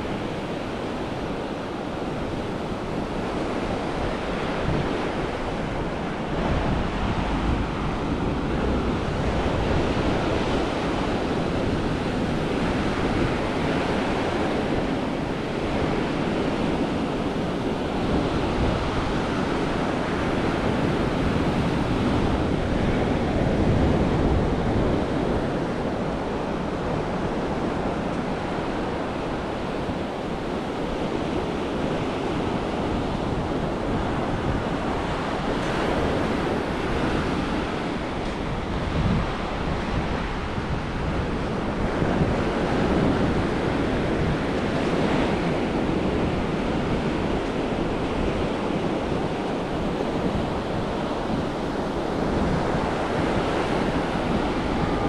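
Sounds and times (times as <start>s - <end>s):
surf washing onto beach: 0.0s - 55.0s
wind buffeting microphone: 0.0s - 55.0s.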